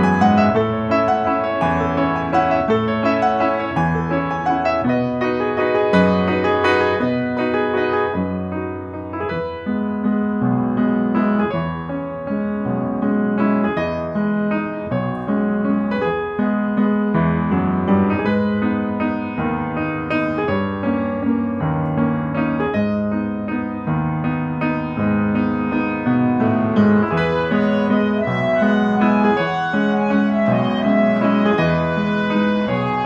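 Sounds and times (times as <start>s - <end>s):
piano-like keyboard chords: 0.0s - 33.0s.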